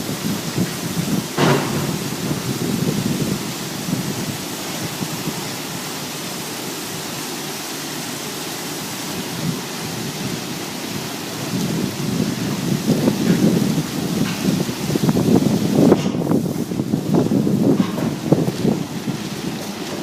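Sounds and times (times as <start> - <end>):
car wash machine rumble: 0.0 - 20.0
water spraying: 0.0 - 20.0.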